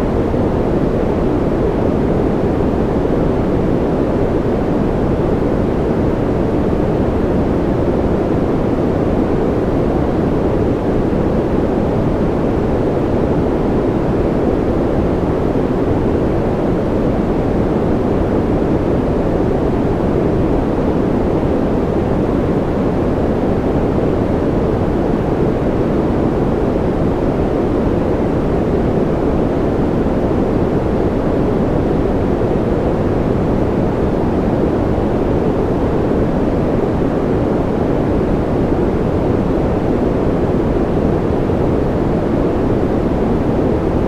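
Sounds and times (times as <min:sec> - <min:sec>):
white noise hiss: 0:00.0 - 0:44.0.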